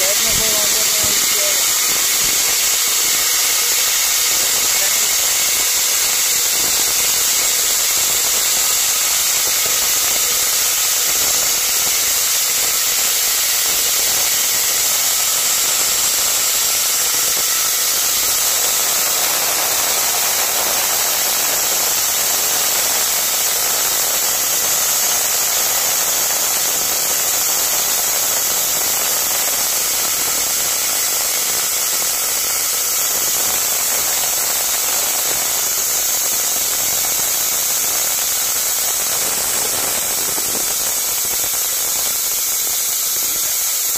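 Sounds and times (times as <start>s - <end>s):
pressurised gas hissing: 0.0s - 43.9s.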